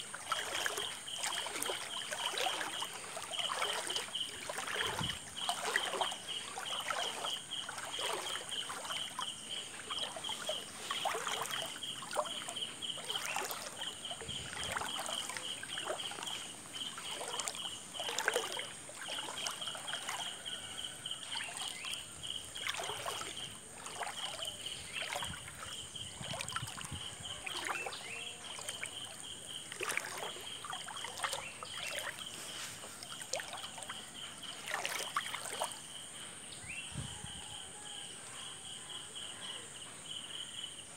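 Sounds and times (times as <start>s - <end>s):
floodwater splashing: 0.0s - 35.9s.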